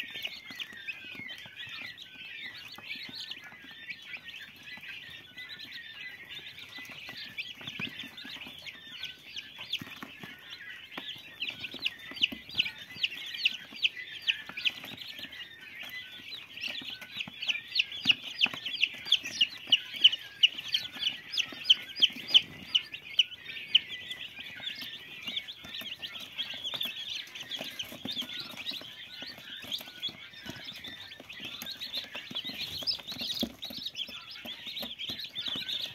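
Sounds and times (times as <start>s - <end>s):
chicks peeping: 0.0s - 35.9s.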